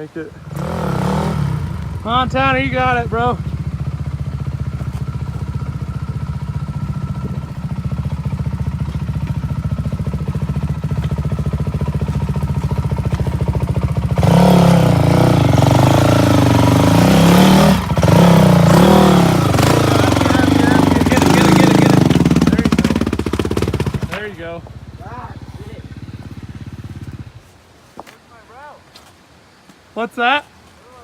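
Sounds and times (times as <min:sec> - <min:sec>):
dirt bike engine revving: 0:00.0 - 0:27.4.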